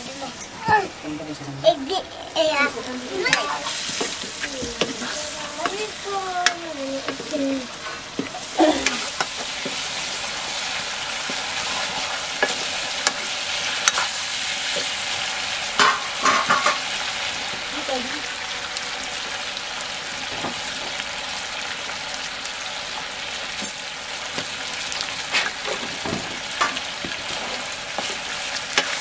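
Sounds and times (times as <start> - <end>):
meat sizzling in a wok: 0.0 - 29.0.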